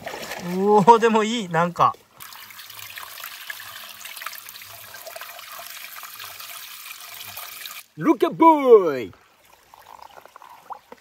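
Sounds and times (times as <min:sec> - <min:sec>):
running water trickle: 0:00.0 - 0:11.0.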